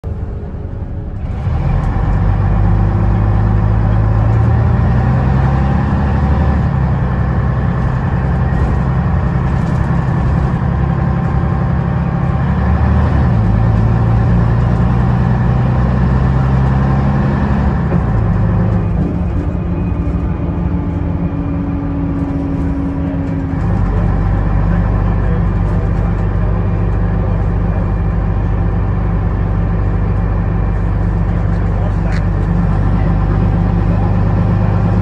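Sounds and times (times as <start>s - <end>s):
bus diesel engine: 0.0s - 35.0s.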